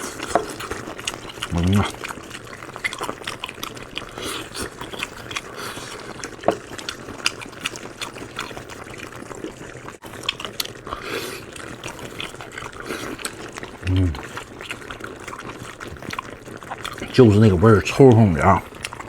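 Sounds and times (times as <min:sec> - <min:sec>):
pot bubbling with pops: 0:00.0 - 0:19.0.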